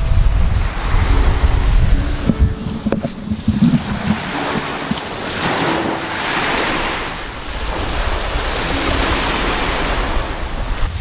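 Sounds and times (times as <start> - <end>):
wind buffeting microphone: 0.0 - 11.0
small waves breaking on sand: 2.2 - 11.0.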